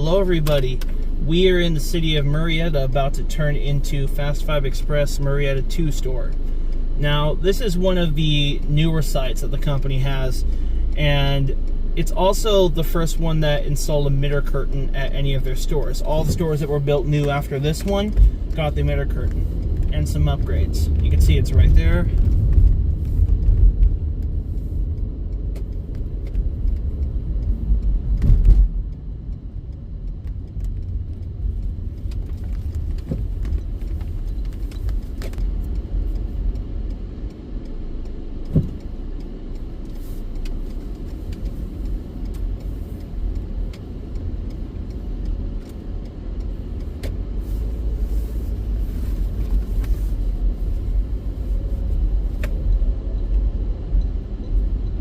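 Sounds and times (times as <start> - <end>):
car engine rumble from inside: 0.0 - 55.0.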